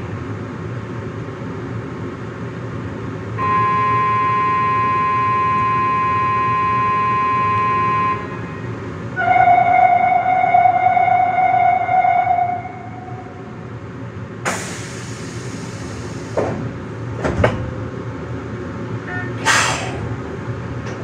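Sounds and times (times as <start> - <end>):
subway train humming: 0.0 - 21.0.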